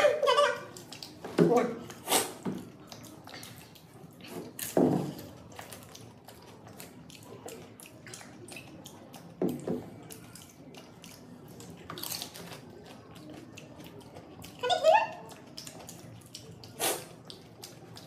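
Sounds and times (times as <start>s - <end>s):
crunching and chewing: 0.0s - 18.0s.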